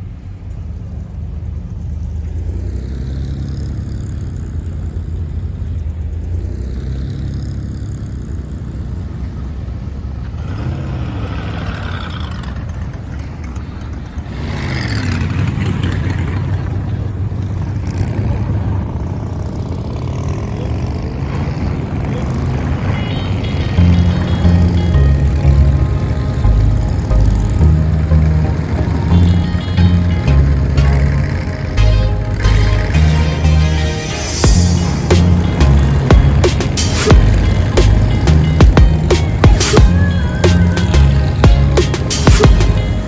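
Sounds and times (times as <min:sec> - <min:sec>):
car engines rumbling: 0:00.0 - 0:43.0
loud car passing: 0:00.0 - 0:43.0.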